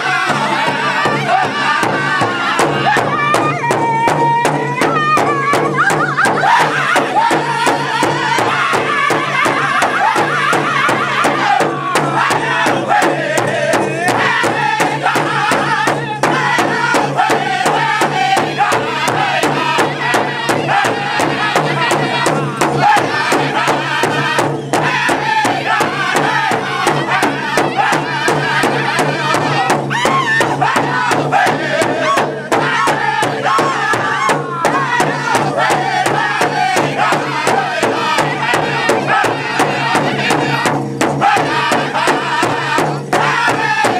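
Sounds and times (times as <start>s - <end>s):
large drum beating: 0.0s - 43.9s
men singing in high voices: 0.0s - 43.9s.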